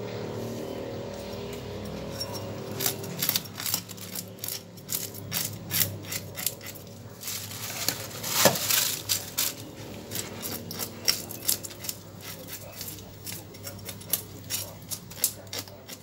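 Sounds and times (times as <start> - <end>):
knife scraping fish scales: 1.8 - 16.0.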